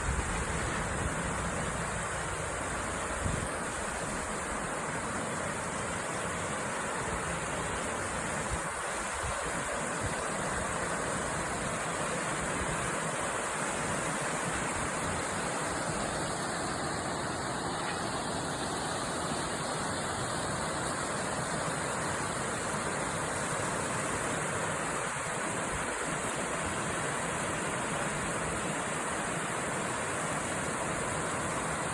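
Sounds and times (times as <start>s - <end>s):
river water flowing: 0.0s - 31.9s.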